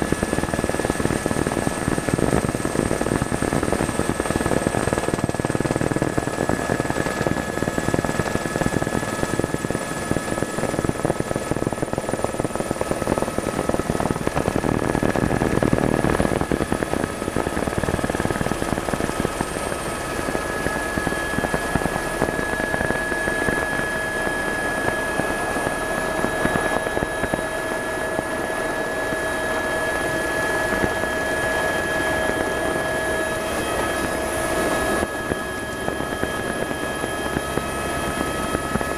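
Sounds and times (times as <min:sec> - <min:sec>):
helicopter engine and rotor drone: 0:00.0 - 0:38.9
high steady whine: 0:00.0 - 0:38.9.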